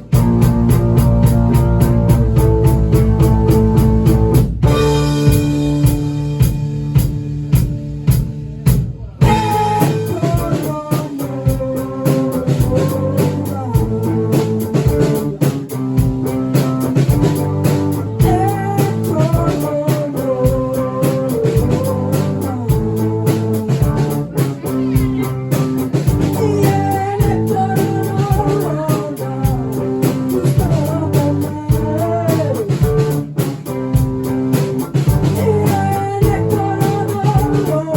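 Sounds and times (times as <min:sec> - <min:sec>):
guitar lead line: 0:00.0 - 0:37.9
rock band playing live: 0:00.0 - 0:37.9.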